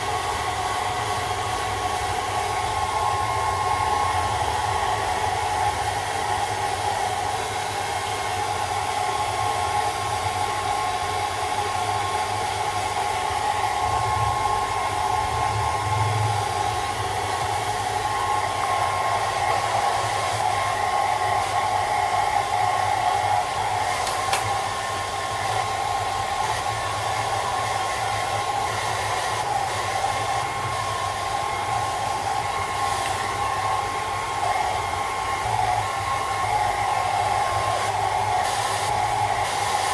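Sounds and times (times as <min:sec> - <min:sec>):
hairdryer running: 0:00.0 - 0:39.9.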